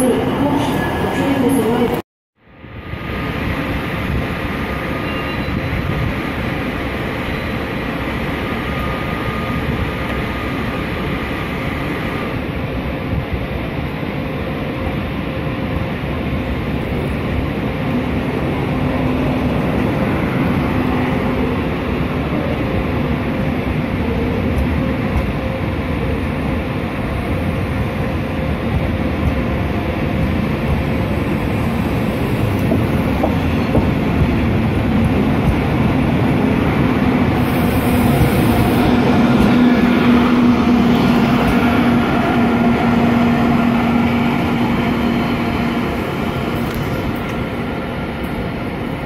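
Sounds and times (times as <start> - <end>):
train wheels rumbling on rail: 2.6 - 49.0.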